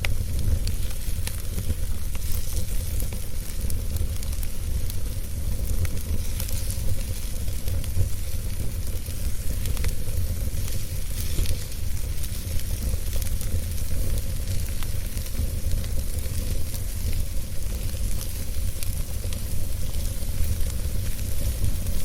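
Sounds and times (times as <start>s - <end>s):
wood fire crackling and hissing: 0.0s - 22.0s.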